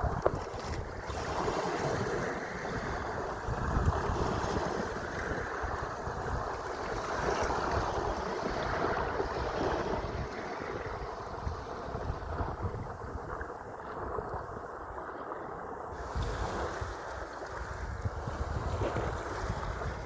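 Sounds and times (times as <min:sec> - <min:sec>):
sea waves washing: 0:00.0 - 0:20.0
wind buffeting microphone: 0:00.0 - 0:20.0.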